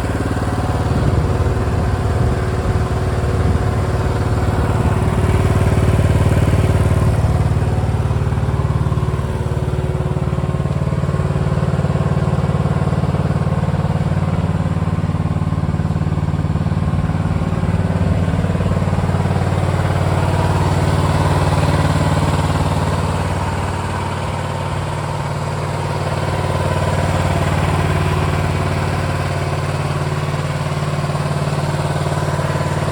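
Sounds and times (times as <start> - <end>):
loader engine running: 0.0 - 32.9.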